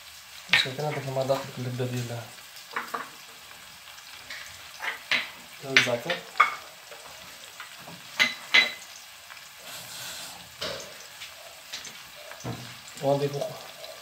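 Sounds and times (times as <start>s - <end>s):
tomato sizzling in hot oil: 0.0s - 14.0s.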